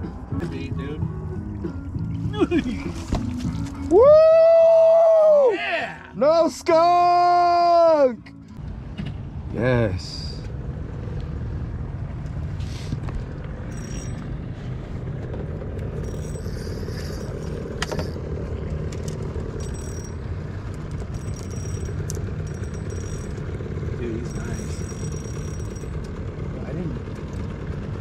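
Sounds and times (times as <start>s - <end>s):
boat motor rumbling: 0.0s - 28.0s.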